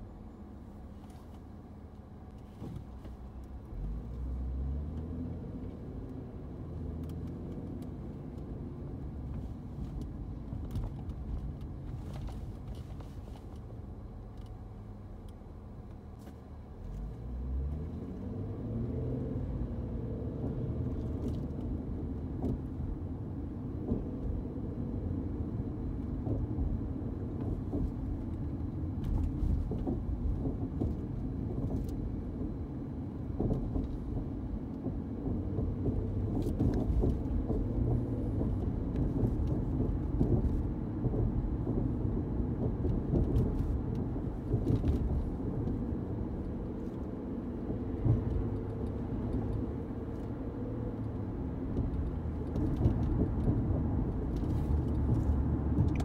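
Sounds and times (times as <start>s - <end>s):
car engine rumble from cabin: 0.0s - 56.0s.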